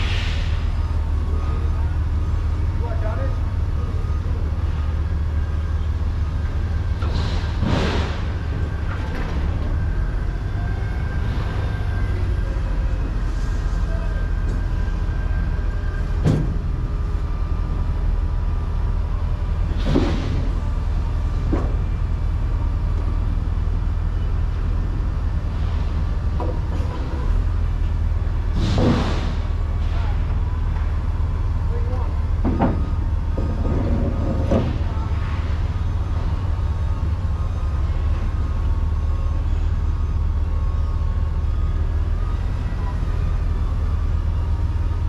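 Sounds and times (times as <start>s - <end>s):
vehicle engine rumble: 0.0s - 45.0s.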